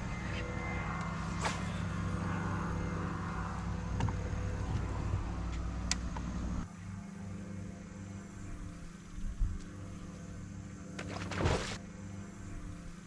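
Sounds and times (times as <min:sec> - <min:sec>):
motor running: 0:00.0 - 0:13.0.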